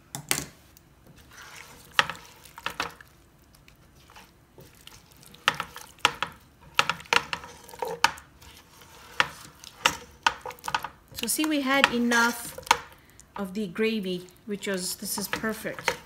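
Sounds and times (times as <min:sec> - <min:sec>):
wet squelching of sauce: 0:01.2 - 0:06.2, 0:06.9 - 0:16.0.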